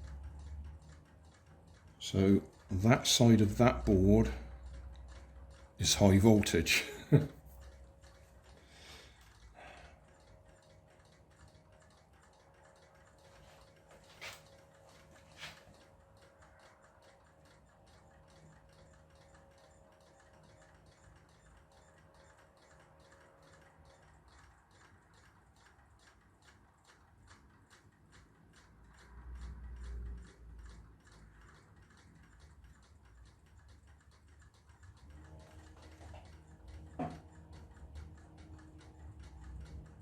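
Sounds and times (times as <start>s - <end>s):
faint regular ticking: 0.0s - 40.0s.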